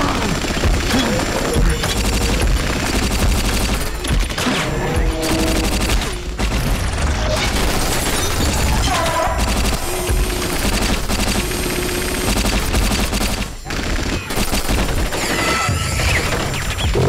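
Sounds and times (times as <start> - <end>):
heavy automatic gunfire: 0.0 - 16.9.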